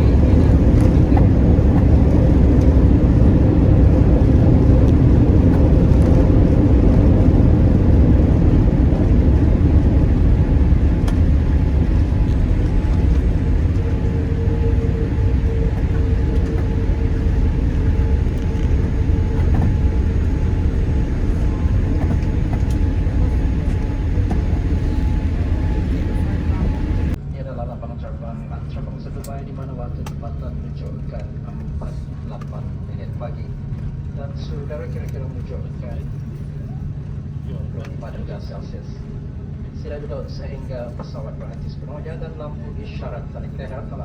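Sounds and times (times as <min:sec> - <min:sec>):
aircraft cabin engine noise: 0:00.0 - 0:44.0
faint hum: 0:00.0 - 0:44.0.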